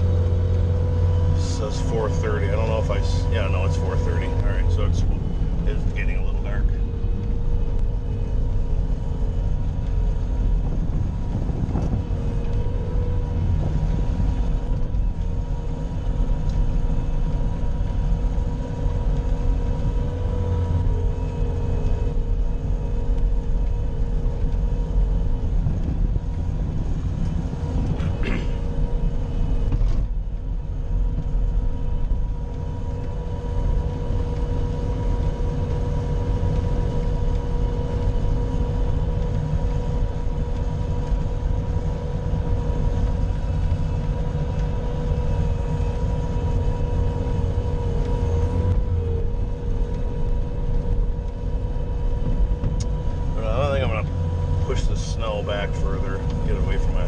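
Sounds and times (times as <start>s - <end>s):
diesel engine rumbling: 0.0s - 57.0s
steady engine whine: 0.0s - 57.0s.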